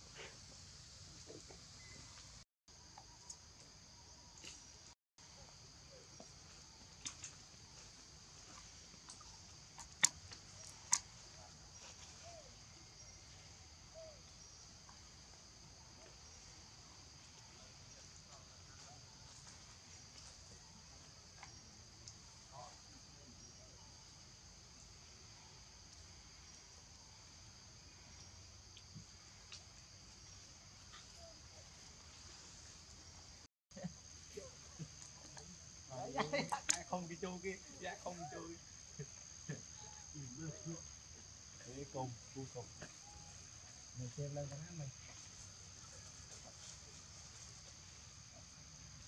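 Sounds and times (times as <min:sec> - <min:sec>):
high-pitched insect chorus: 0:00.0 - 0:49.0.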